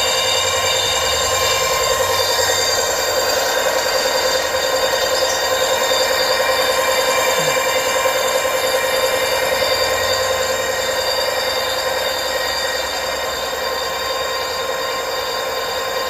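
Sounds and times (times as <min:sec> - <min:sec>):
electric hub motor whine: 0:00.0 - 0:16.0.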